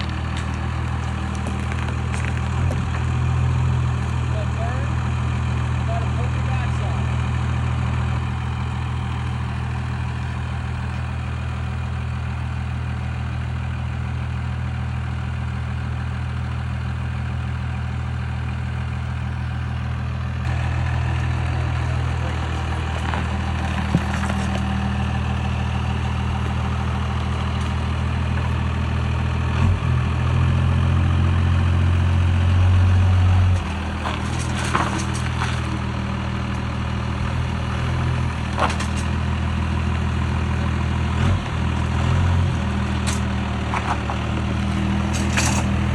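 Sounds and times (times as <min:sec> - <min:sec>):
heavy vehicle engine drone: 0:00.0 - 0:45.9.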